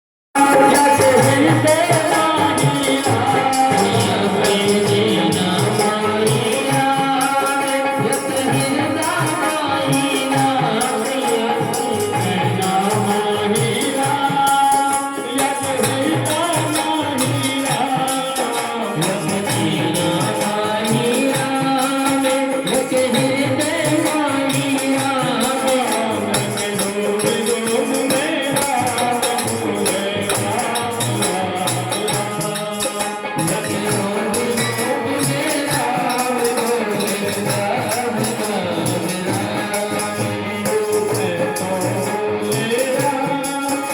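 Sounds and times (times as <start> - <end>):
devotional singing melody: 0.4 - 43.9
rattling hand percussion: 0.4 - 43.9.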